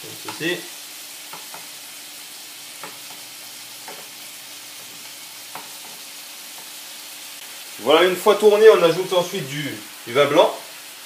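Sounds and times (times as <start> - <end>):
scallops sizzling in butter: 0.0 - 11.0.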